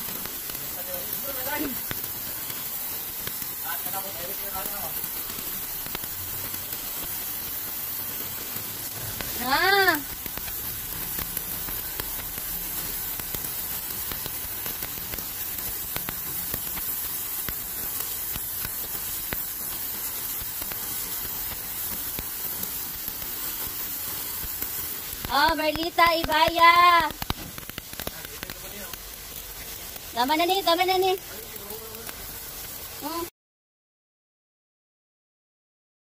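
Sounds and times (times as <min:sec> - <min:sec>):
pressure washer jet hissing: 0:00.0 - 0:33.3.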